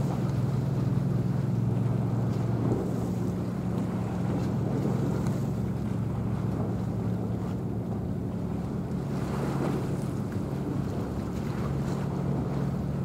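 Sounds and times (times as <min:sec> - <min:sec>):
ship engines droning: 0:00.0 - 0:13.0.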